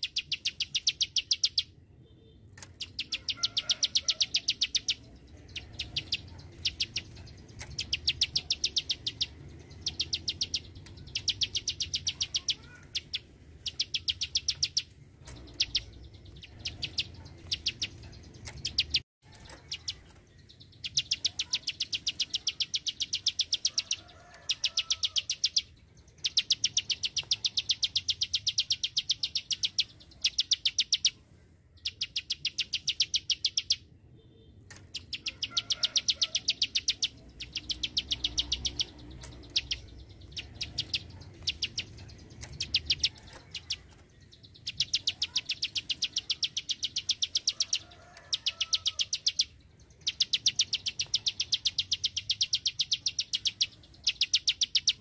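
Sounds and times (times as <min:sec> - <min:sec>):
bird singing clicking notes: 0:00.0 - 0:01.7, 0:02.5 - 0:31.2, 0:34.6 - 0:55.0.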